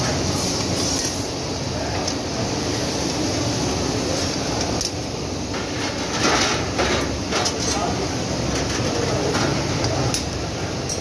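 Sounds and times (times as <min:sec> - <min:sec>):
gas burners roaring: 0:00.0 - 0:11.0.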